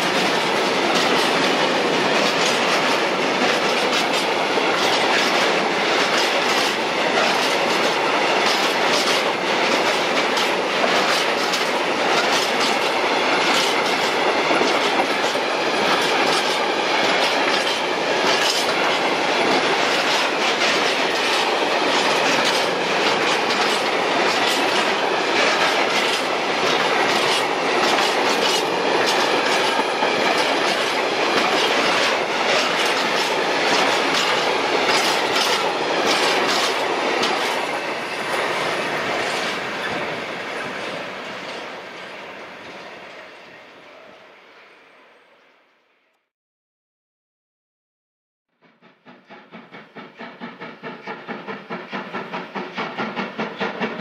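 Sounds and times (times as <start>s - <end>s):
train wheels clattering over rail joints: 0.0s - 41.7s, 48.6s - 54.0s.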